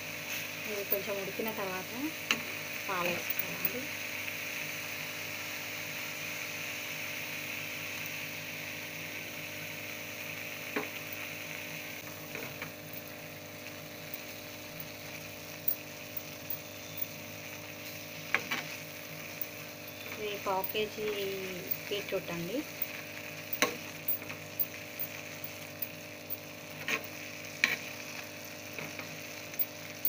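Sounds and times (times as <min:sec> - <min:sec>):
beetroot sizzling in a pot: 0:00.0 - 0:30.0.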